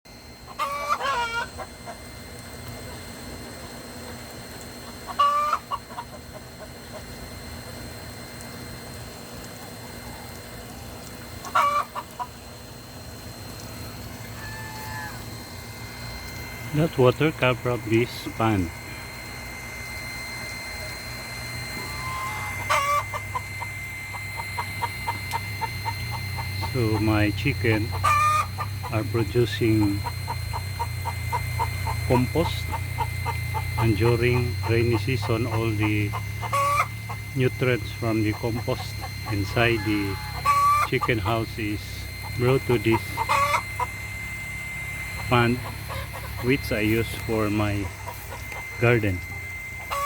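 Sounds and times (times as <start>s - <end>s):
chickens clucking: 0.4s - 2.0s, 4.8s - 7.2s, 9.6s - 12.4s, 14.2s - 50.0s.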